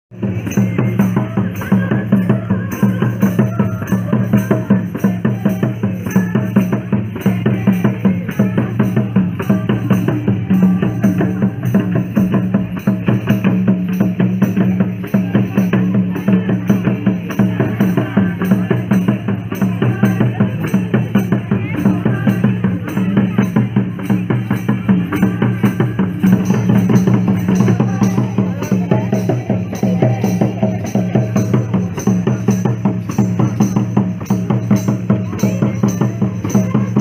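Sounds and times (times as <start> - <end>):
drums and percussion: 0.1 - 37.0
tambourine jingling: 0.2 - 37.0.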